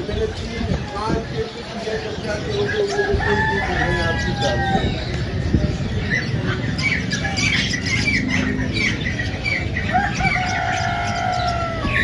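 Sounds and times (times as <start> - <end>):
caged birds calling: 0.0 - 12.0.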